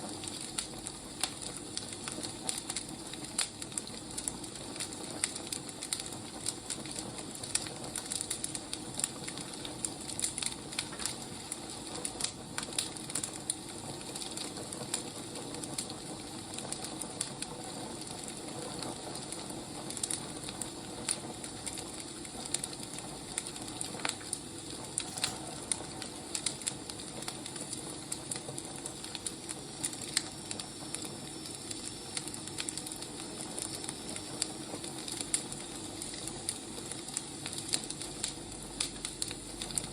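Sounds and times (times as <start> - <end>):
firewood burning: 0.0 - 39.9.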